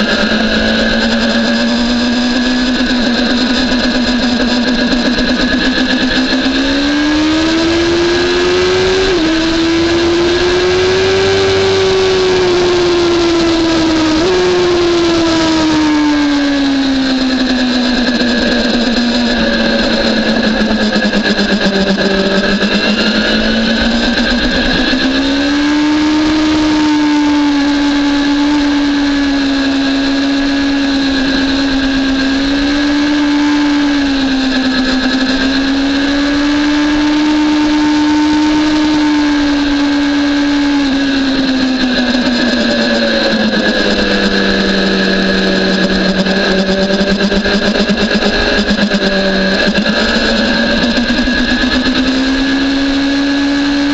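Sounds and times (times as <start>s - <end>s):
motorcycle engine cruising: 0.0s - 53.9s.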